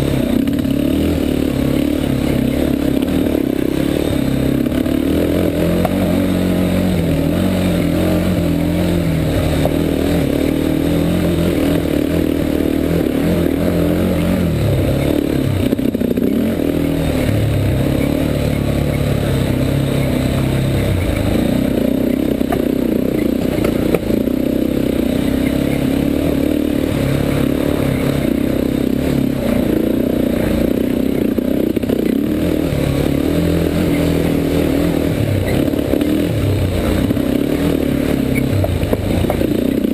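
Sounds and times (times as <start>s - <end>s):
atv engine revving: 0.0s - 39.9s
vehicle rattling over rough ground: 0.0s - 39.9s.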